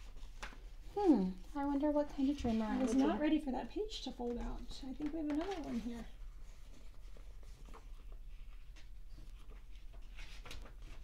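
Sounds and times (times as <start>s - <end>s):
picture book pages rustling: 0.0s - 11.0s.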